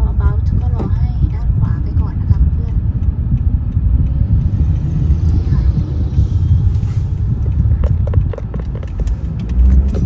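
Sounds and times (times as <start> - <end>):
car cabin road and engine rumble: 0.0 - 10.0.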